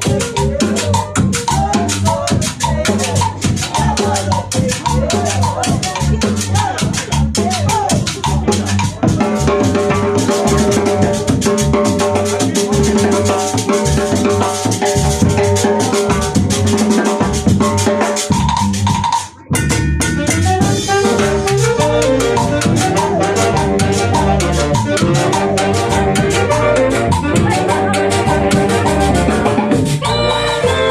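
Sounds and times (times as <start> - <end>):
band playing fast music: 0.0 - 30.9
drum kit and percussion: 0.0 - 30.9.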